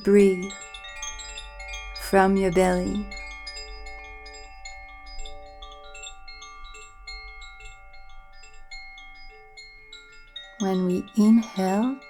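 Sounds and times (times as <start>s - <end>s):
ringing chimes music: 0.0s - 12.0s.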